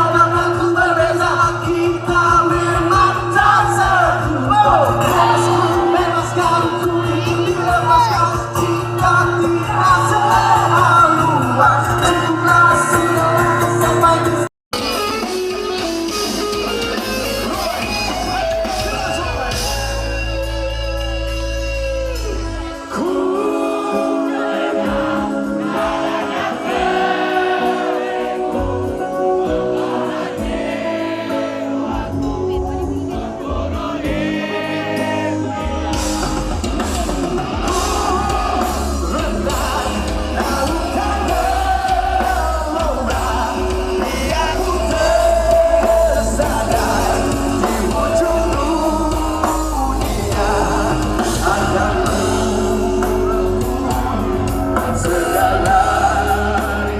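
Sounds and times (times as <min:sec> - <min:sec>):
bass and drums: 0:00.0 - 0:23.8, 0:31.9 - 0:56.9
live band music with singing: 0:00.0 - 0:56.9.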